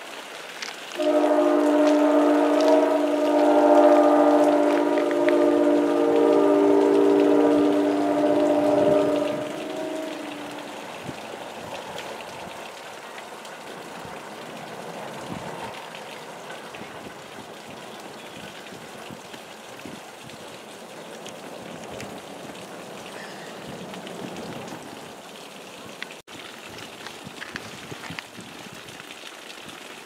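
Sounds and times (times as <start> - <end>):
raindrops ticking: 0.0 - 30.0
steady rain hissing: 0.0 - 30.0.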